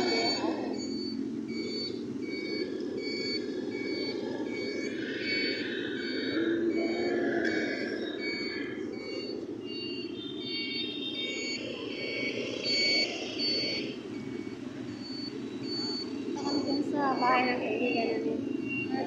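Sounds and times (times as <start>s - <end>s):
high electronic beeper: 0.0s - 19.0s
motorbike and city traffic: 0.0s - 19.0s.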